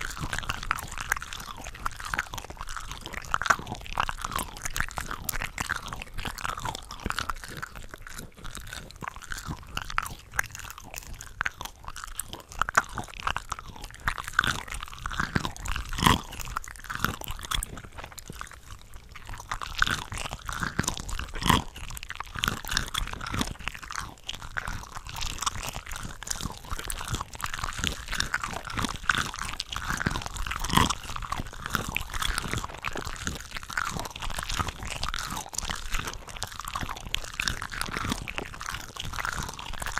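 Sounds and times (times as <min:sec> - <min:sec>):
chewing and biting shrimp: 0:00.0 - 0:39.9.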